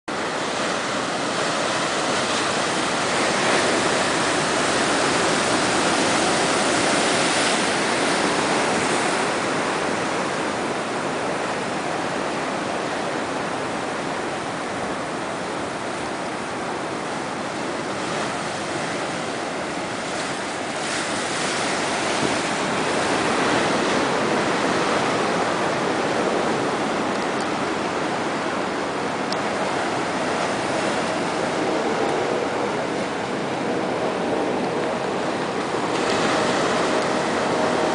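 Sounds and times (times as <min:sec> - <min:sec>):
ocean waves breaking: 0:00.1 - 0:37.9.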